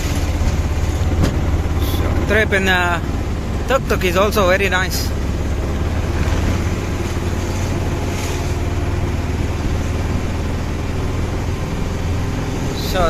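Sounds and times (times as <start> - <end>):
engine drone: 0.0 - 13.0
road noise: 0.0 - 13.0.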